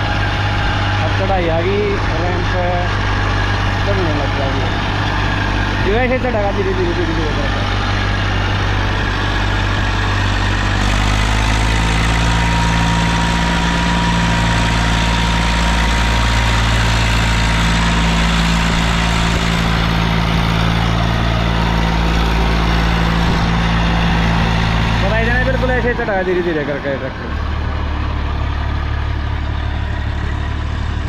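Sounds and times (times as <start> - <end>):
tractor diesel engine working hard: 0.0 - 31.0.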